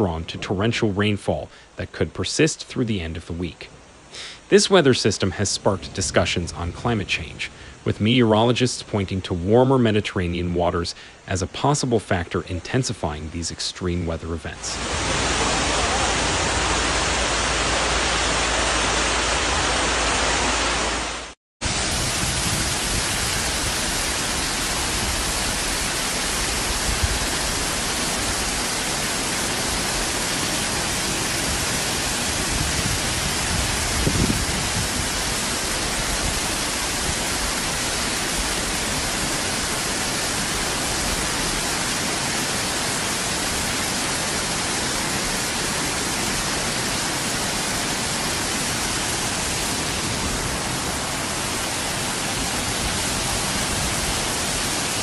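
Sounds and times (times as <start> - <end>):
floodwater rushing: 0.0 - 55.0.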